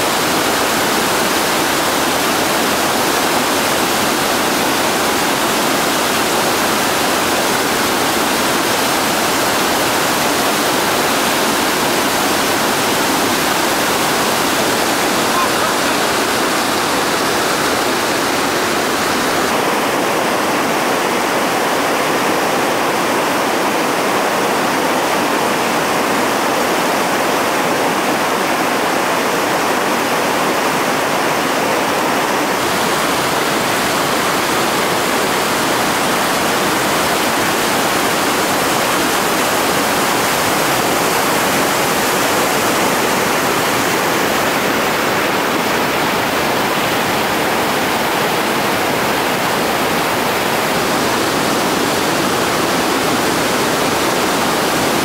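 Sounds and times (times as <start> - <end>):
whitewater rapids rushing: 0.0 - 55.0.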